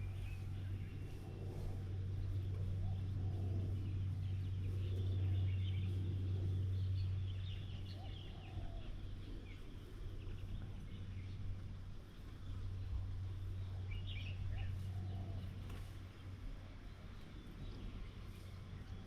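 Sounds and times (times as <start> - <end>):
birds chattering: 0.0 - 19.0
steady low hum: 0.0 - 19.0.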